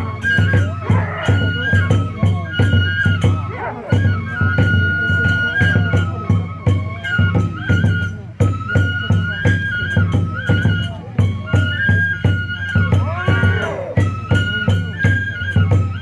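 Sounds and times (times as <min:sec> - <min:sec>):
bamboo flute melody: 0:00.0 - 0:16.0
taiko drum beats: 0:00.0 - 0:16.0.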